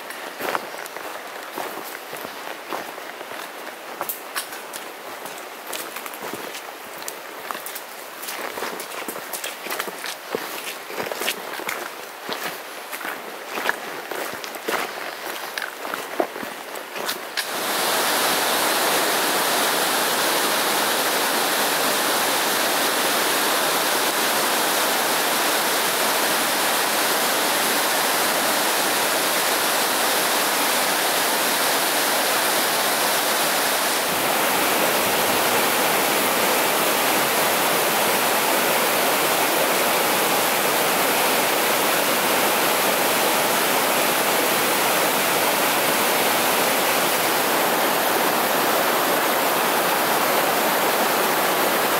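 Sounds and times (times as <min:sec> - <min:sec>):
stream rushing over boulders: 0:00.0 - 0:51.9.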